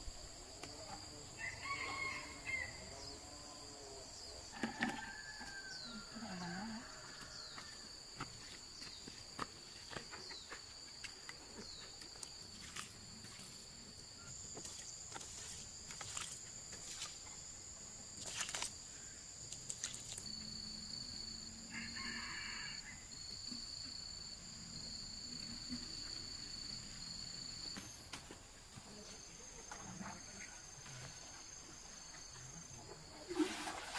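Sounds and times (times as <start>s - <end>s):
insects trilling: 0.0s - 33.9s.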